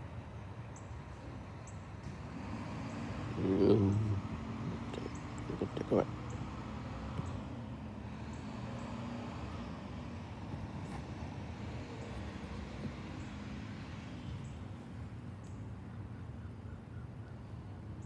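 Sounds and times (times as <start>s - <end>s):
distant truck engine running: 0.9s - 18.0s.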